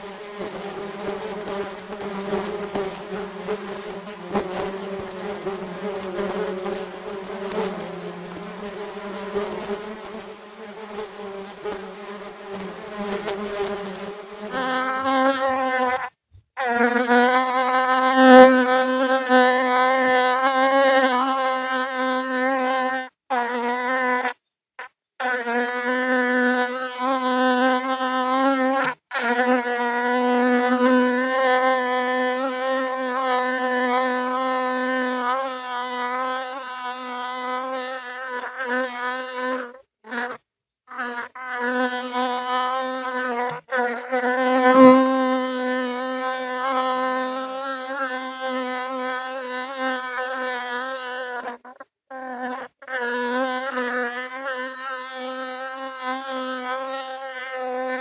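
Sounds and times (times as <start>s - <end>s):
honeybee buzzing: 0.0s - 24.4s, 25.2s - 58.0s.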